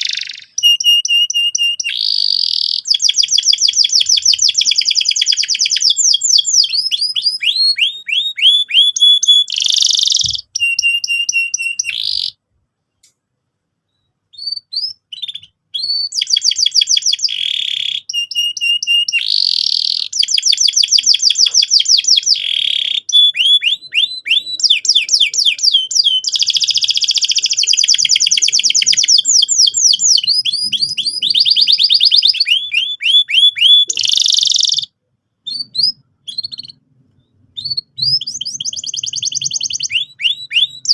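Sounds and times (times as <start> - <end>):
canary singing trills: 0.0 - 12.4, 13.9 - 40.9.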